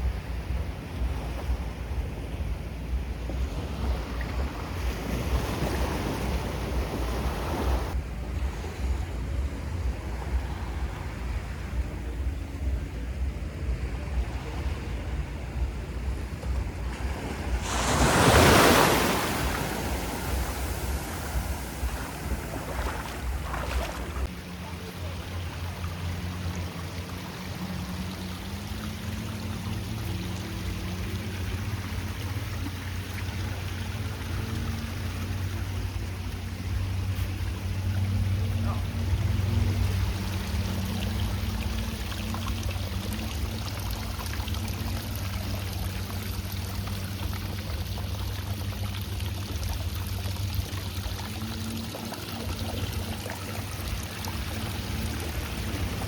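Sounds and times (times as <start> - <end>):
sea waves washing onto beach: 0.0 - 56.0
wind rumbling on microphone: 0.0 - 56.0.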